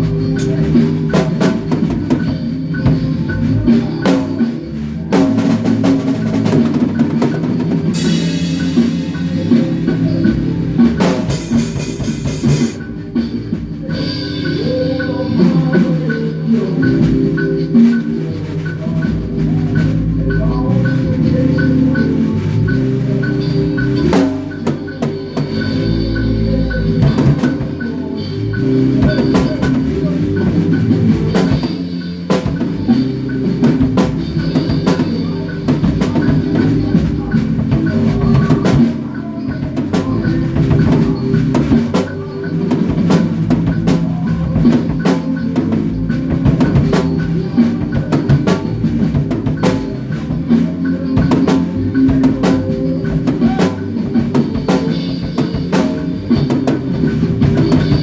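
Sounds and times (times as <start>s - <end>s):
drum kit beat: 0.0s - 58.0s
sustained low bass notes: 0.0s - 58.0s.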